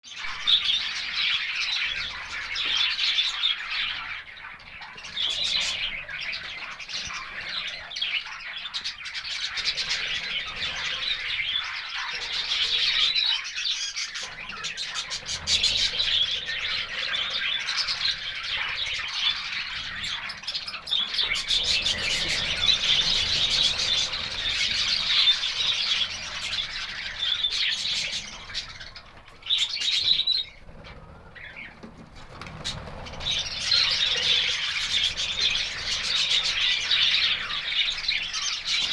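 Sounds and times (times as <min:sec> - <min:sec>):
parrots chattering and squawking: 0:00.1 - 0:38.9.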